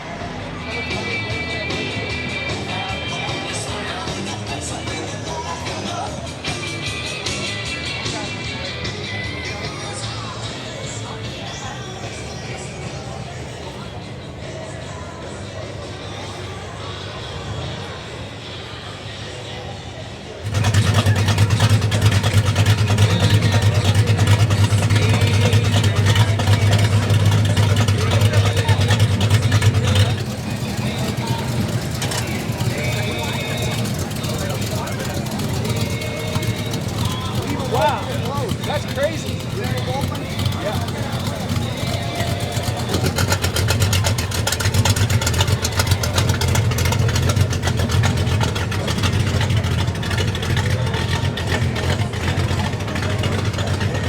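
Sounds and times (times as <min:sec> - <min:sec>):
car engine idling: 0:00.0 - 0:16.6, 0:20.2 - 0:54.0.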